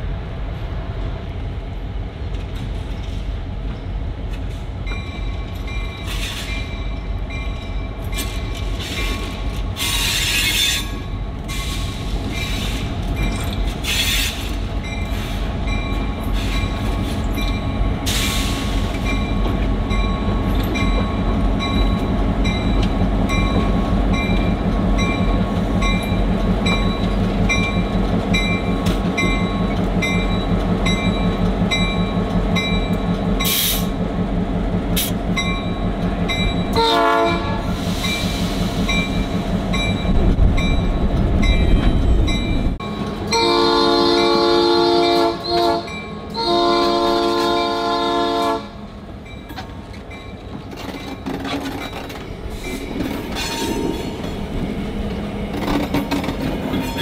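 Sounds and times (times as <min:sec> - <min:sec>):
diesel locomotive engines drumming: 0:00.0 - 0:57.0.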